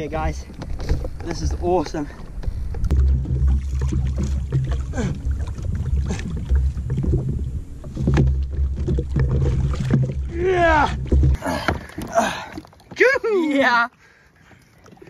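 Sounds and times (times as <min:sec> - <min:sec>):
water splashes: 0:00.0 - 0:15.0.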